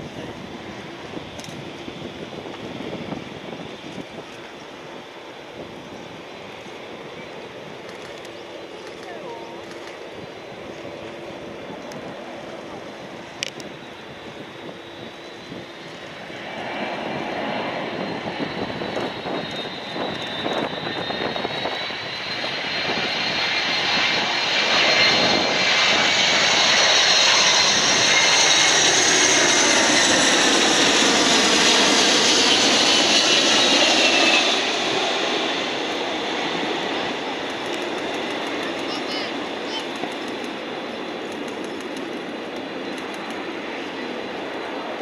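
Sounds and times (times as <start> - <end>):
jet engine roar with whine: 0.0 - 45.0.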